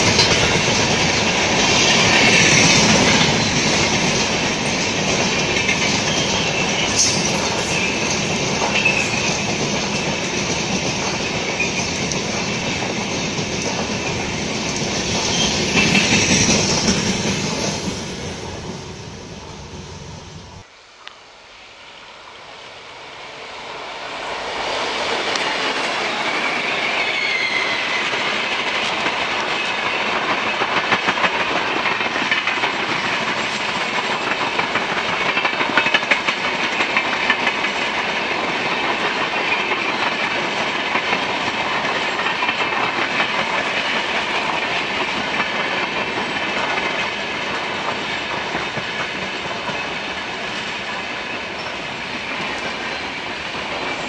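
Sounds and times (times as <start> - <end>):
train wheels clattering: 0.0 - 18.8, 24.2 - 54.0
train passing: 0.0 - 54.0.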